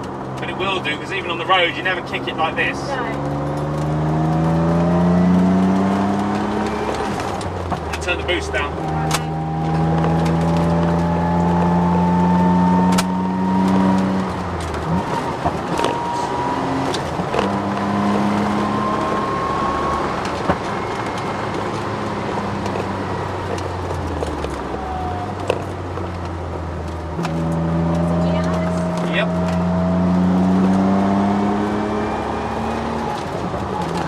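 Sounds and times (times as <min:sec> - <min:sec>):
car engine pulling hard: 0:00.0 - 0:34.0.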